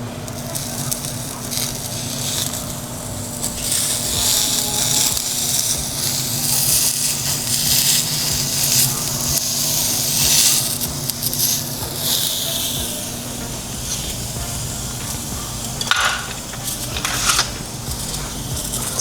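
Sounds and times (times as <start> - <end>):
skewers sizzling on a grill: 0.0 - 19.0
steady low hum: 0.0 - 19.0.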